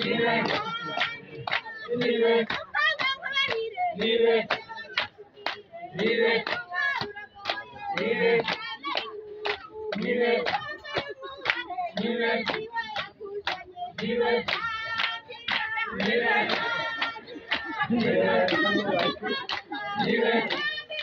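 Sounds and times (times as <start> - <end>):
hand clapping: 0.0 - 21.0
people chanting: 0.0 - 21.0.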